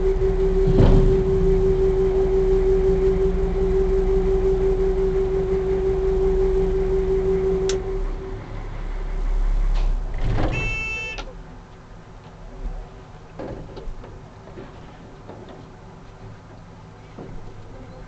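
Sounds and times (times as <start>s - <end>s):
boat engine rumble: 0.0s - 18.0s.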